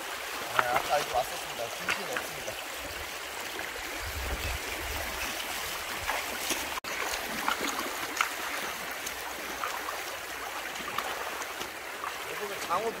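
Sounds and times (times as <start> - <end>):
river water rushing around legs: 0.0 - 13.0
small splashes: 0.0 - 13.0.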